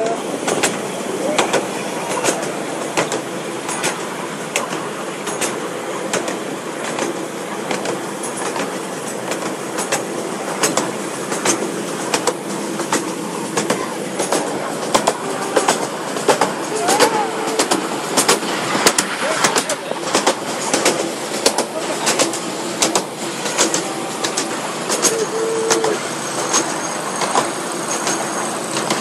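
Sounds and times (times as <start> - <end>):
railway carriages rolling rumble: 0.0 - 29.0
wheels clicking over rail joints: 0.0 - 29.0.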